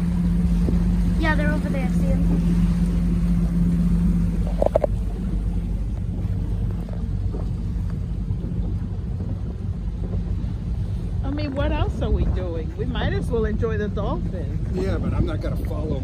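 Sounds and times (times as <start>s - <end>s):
motorboat engine running: 0.0s - 16.0s
water rushing past: 0.0s - 16.0s
wind: 0.0s - 16.0s.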